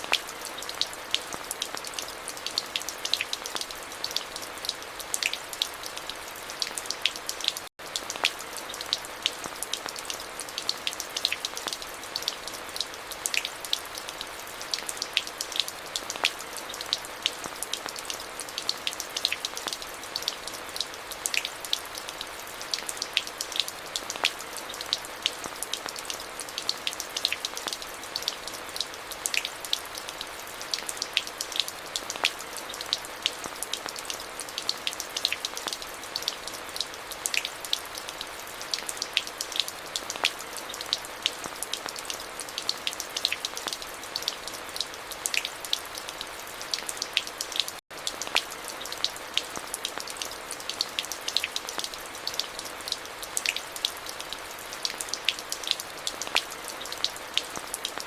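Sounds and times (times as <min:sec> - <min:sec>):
hiss of rainfall: 0:00.0 - 0:58.0
rain drops hitting: 0:00.0 - 0:58.0.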